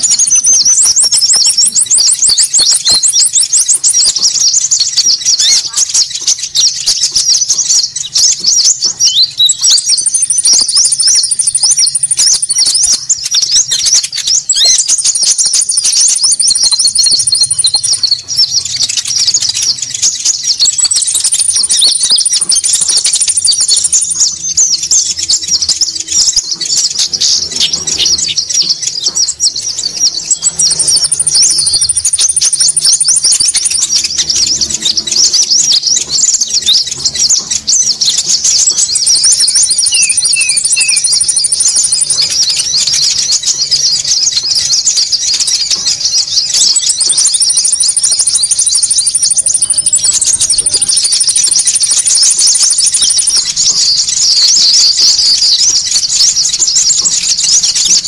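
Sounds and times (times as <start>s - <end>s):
birds chattering high-pitched: 0.0s - 58.0s
rapid high bird trill: 0.0s - 58.0s.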